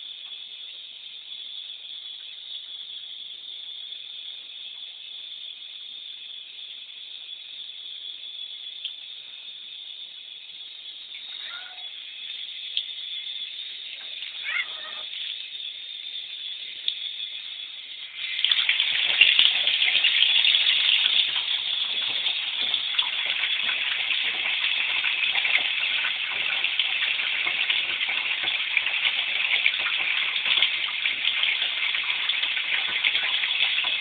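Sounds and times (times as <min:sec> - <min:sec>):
water gushing into bathtub: 0:00.0 - 0:34.0.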